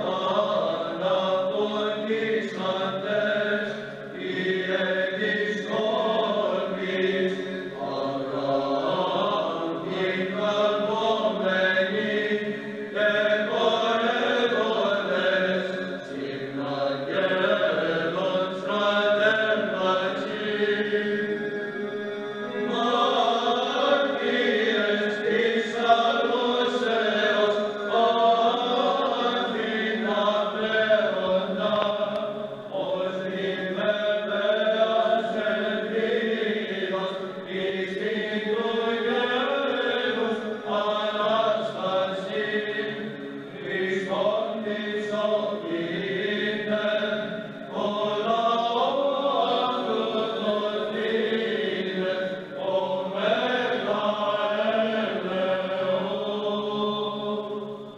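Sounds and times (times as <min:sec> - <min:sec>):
male choir chanting: 0:00.0 - 0:57.9.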